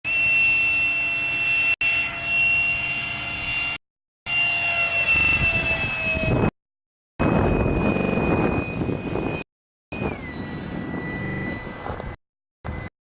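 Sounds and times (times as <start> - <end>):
ducted fan high-pitched whine: 0.1 - 6.5, 7.2 - 12.9.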